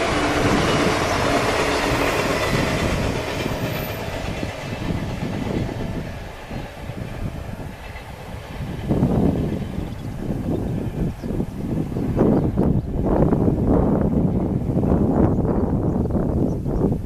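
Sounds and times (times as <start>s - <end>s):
train passing: 0.0s - 17.0s
wind buffeting microphone: 0.0s - 17.0s.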